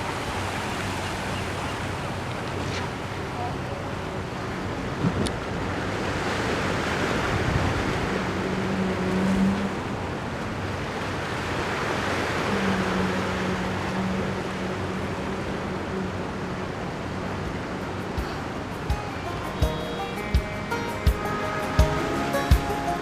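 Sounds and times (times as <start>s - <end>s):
ocean surf washing: 0.0s - 23.0s.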